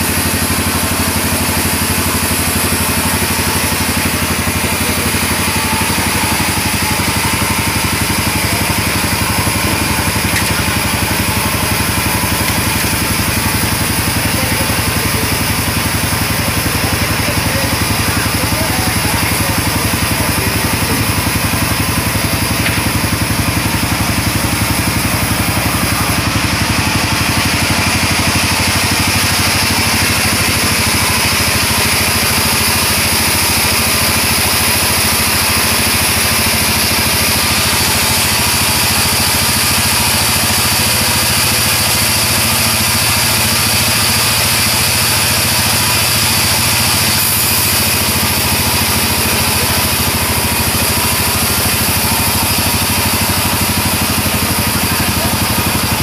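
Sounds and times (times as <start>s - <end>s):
band saw cutting log: 0.0s - 56.0s.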